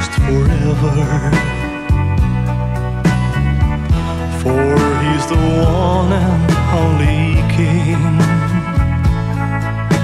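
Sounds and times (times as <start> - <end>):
steady drum beat: 0.0 - 10.0
sustained backing chords: 0.0 - 10.0.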